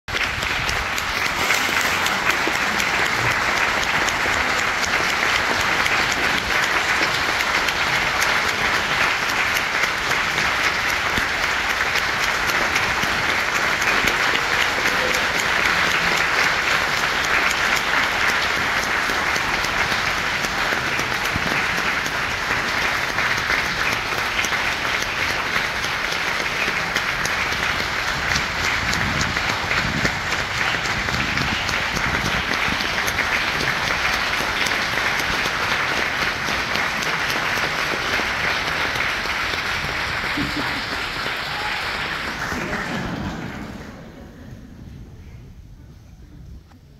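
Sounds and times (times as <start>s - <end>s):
audience applauding: 0.1s - 44.5s.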